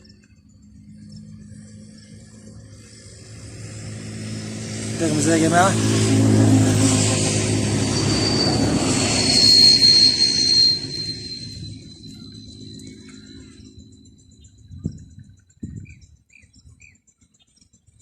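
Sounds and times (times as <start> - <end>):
high thin whine: 0.0 - 15.3
vehicle engine hum passing: 0.0 - 15.4.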